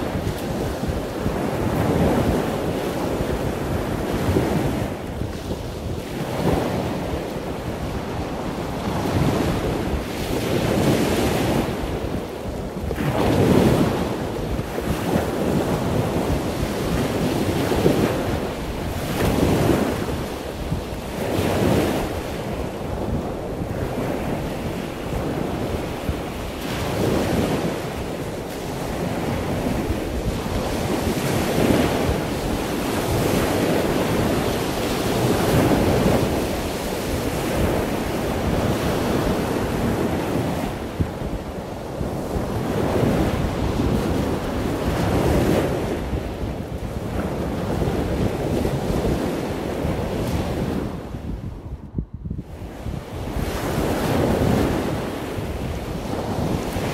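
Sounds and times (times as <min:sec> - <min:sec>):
surf breaking on beach: 0:00.0 - 0:51.8, 0:52.5 - 0:56.9
wind buffeting microphone: 0:00.0 - 0:56.9.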